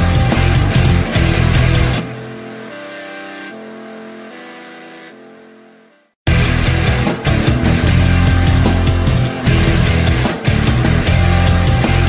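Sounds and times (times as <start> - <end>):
heavy rock music: 0.0 - 5.3, 6.3 - 12.0.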